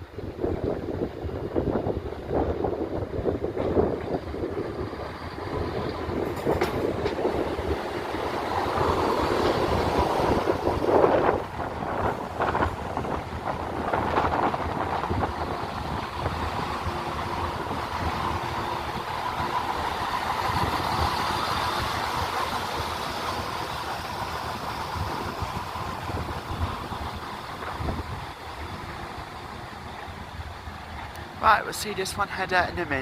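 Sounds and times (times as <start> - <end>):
diesel train engines idling: 0.0 - 33.0.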